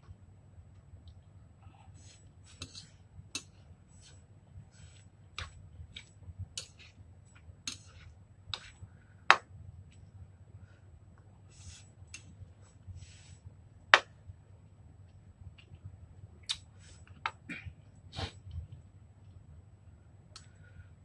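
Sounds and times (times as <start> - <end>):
soft eating noises: 0.1 - 13.5, 14.4 - 21.0.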